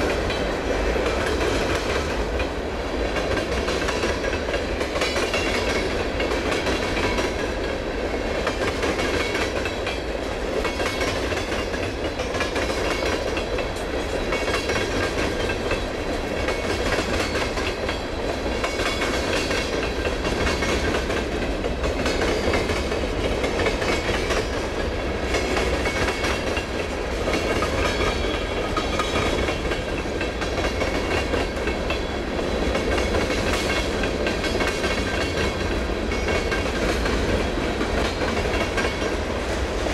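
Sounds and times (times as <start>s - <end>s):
train wheels rumbling on rails: 0.0s - 39.9s
wheels clacking over rail joints: 0.0s - 39.9s.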